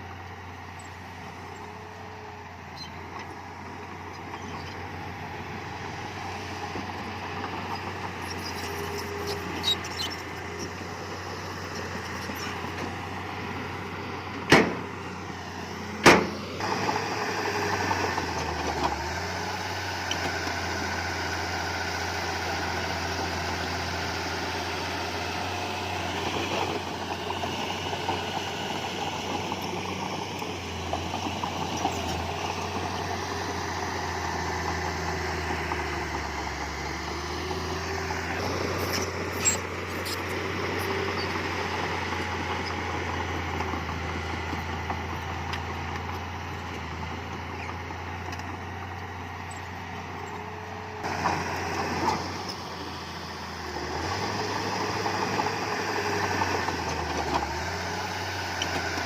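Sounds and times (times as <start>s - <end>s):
diesel engine of heavy machinery: 0.0s - 59.0s.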